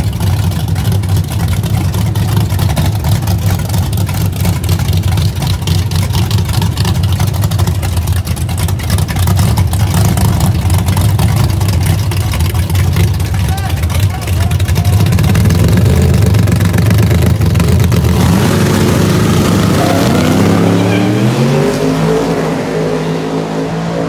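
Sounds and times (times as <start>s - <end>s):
engine running with deep rumble: 0.0s - 24.0s.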